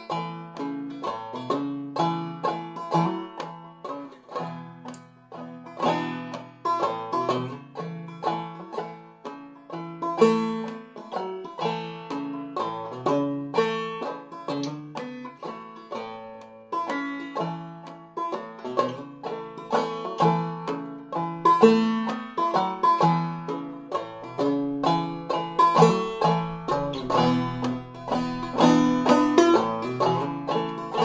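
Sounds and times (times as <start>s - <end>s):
banjo playing a waltz: 0.0s - 31.0s.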